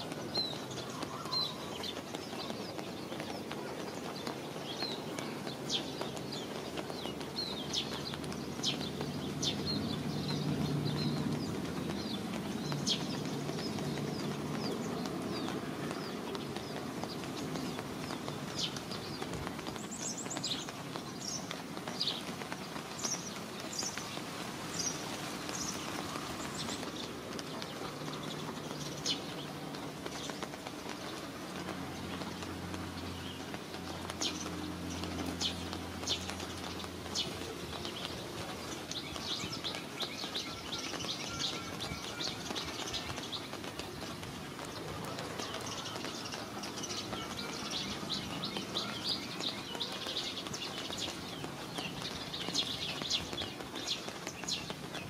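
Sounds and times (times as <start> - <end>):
small birds chirping: 0.0 - 55.0
steady rain hiss: 0.0 - 55.0.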